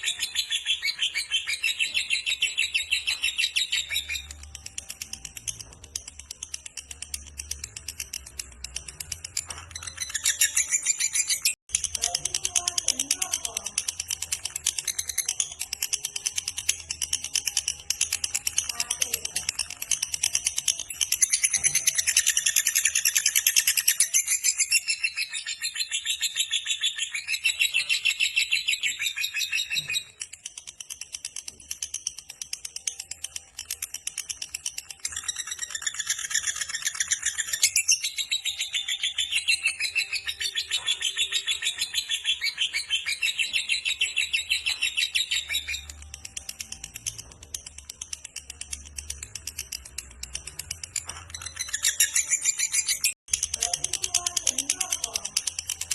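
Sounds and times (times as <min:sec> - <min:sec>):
lovebird rapid chattering trill: 0:00.0 - 0:55.9
quiet bird chatter: 0:00.0 - 0:55.9.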